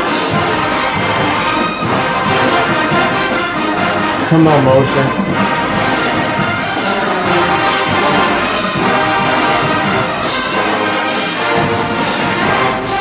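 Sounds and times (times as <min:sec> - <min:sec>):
marching band brass playing: 0:00.0 - 0:13.0
percussion strokes: 0:00.0 - 0:13.0.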